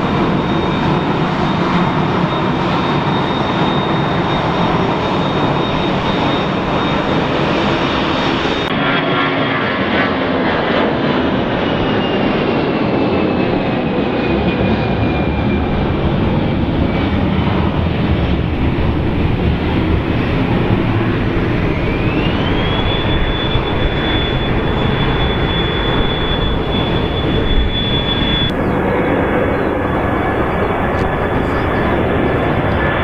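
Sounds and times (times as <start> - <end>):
jet engines spooling up: 0.0 - 8.9, 9.8 - 33.0.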